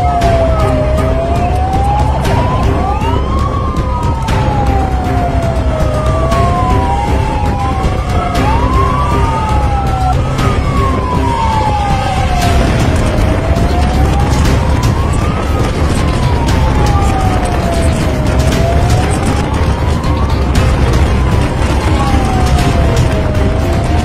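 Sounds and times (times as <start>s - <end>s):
engine and road rumble: 0.0s - 24.0s
fire truck siren wailing: 0.0s - 24.0s
second siren wailing: 0.0s - 24.0s.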